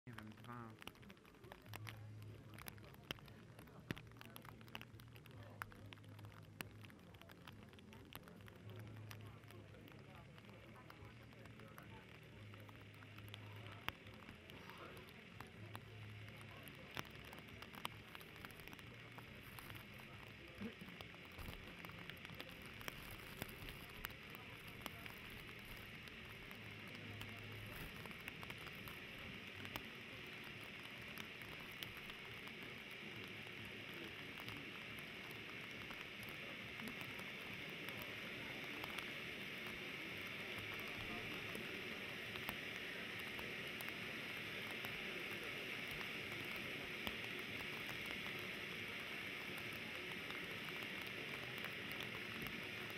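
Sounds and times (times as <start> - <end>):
firework crackles: 0.1 - 52.9
firework fountain hissing: 0.1 - 52.9.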